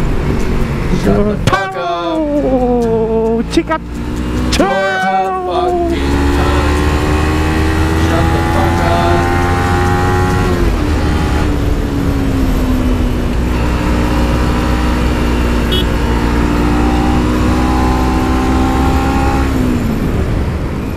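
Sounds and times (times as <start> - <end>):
motorcycle engine cruising: 0.0 - 20.9.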